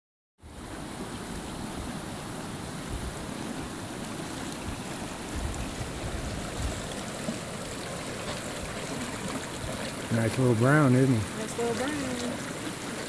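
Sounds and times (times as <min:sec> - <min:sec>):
stream rushing over rocks: 0:00.4 - 0:13.0.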